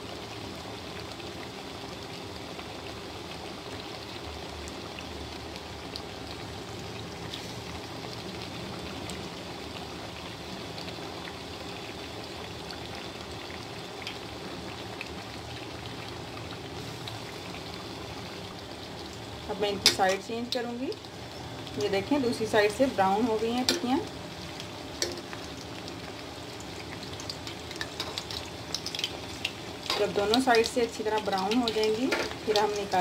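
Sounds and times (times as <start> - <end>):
food deep-frying in oil: 0.0 - 33.0.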